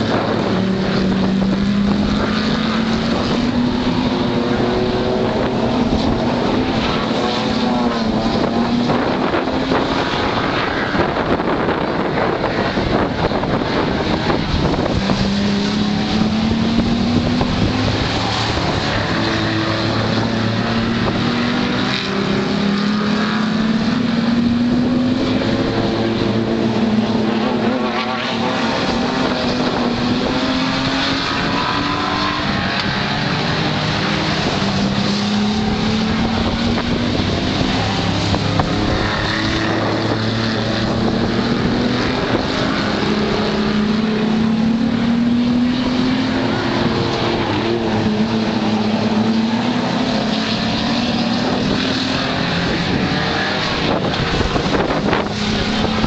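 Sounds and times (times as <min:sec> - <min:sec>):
racing car engines accelerating: 0:00.0 - 0:56.0.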